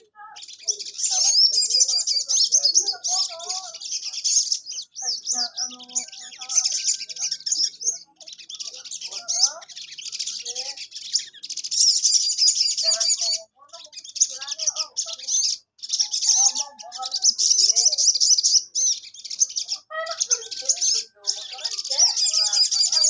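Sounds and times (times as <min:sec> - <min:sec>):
bird twittering: 0:00.0 - 0:23.0
lower bird chirps: 0:00.0 - 0:23.0.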